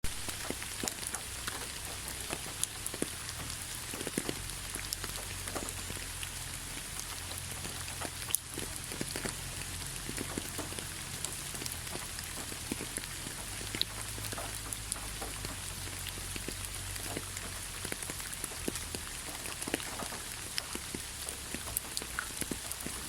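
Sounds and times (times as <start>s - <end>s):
rain hissing: 0.0s - 23.0s
raindrops ticking on surfaces: 0.0s - 23.0s.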